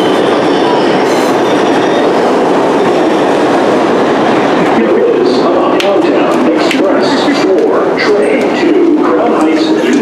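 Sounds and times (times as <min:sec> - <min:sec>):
subway train rumble: 0:00.0 - 0:10.0.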